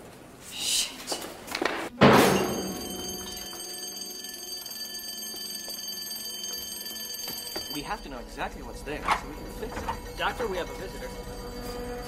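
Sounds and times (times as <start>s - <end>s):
steady high ringing tones: 2.3s - 12.0s.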